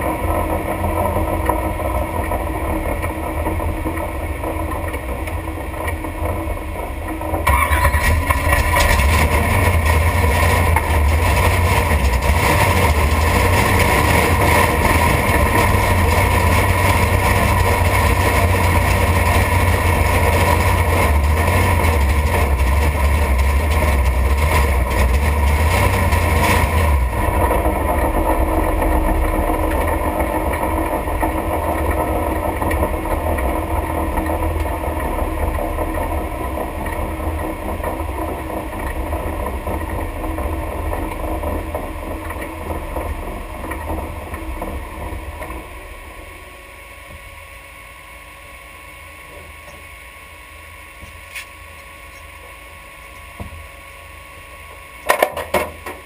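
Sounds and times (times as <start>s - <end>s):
race car engine rumbling: 0.0s - 47.9s.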